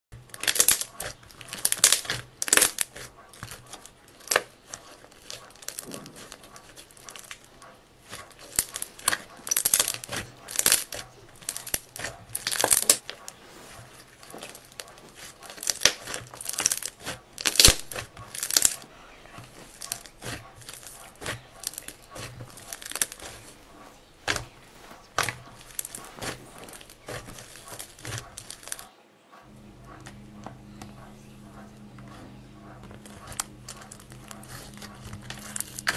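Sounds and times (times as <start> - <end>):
slime crackling and tearing: 0.2 - 28.9, 32.8 - 35.9.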